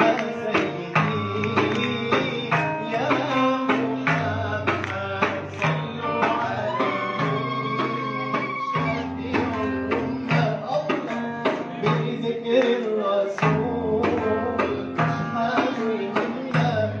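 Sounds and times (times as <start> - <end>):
man singing into a microphone: 0.0 - 17.0
music with steady drum beat: 0.0 - 17.0.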